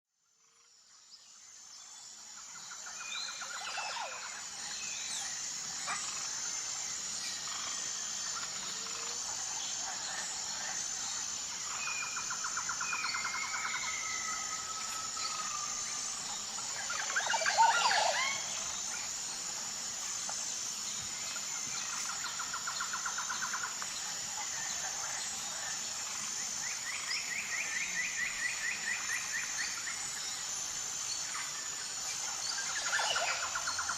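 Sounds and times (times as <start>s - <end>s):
insect chorus pulsing: 0.2s - 33.9s
bird calls and pulsed trills: 0.4s - 33.9s.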